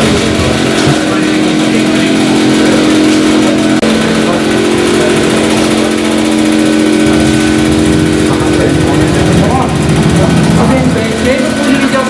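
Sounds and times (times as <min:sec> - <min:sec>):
loud engine-like drone: 0:00.0 - 0:12.0.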